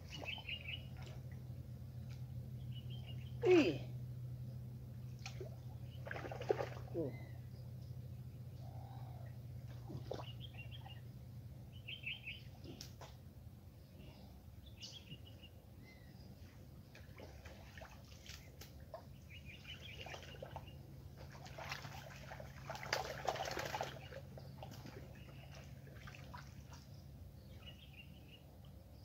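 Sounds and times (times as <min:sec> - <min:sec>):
small birds chirping: 0:00.0 - 0:03.4, 0:04.4 - 0:13.2, 0:13.8 - 0:29.0
steady low hum: 0:00.0 - 0:29.0.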